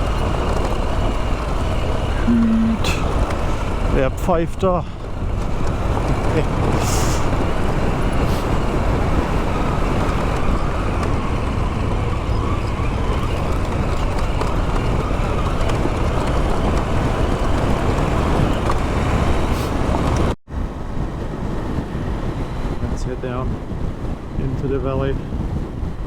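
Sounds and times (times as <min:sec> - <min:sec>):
motorcycle engine running: 0:00.0 - 0:26.0
wind rushing on microphone: 0:00.0 - 0:26.0.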